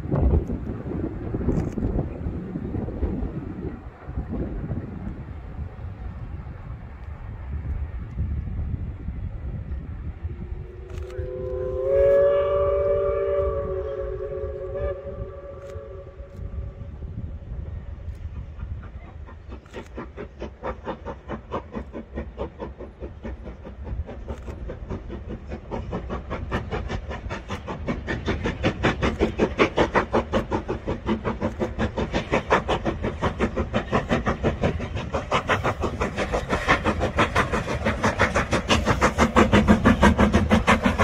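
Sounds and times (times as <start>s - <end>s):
steam train beats and wheels: 0.0s - 41.0s.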